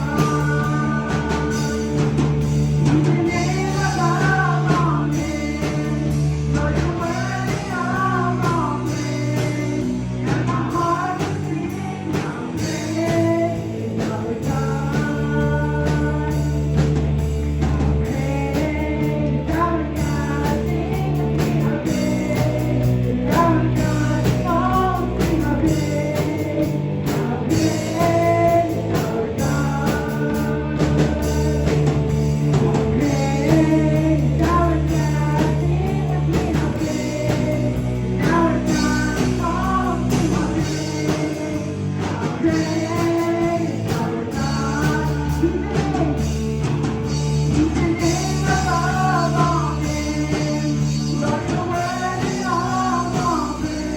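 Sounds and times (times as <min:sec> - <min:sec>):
person singing: 0:00.0 - 0:53.9
rock band backing: 0:00.0 - 0:53.9.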